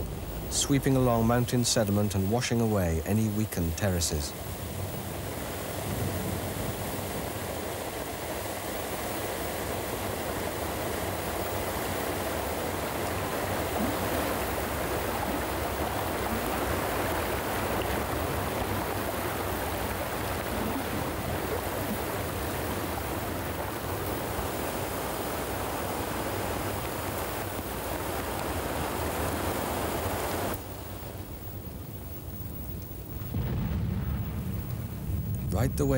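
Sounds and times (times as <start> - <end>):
flood water rushing over rocks: 0.0 - 30.8.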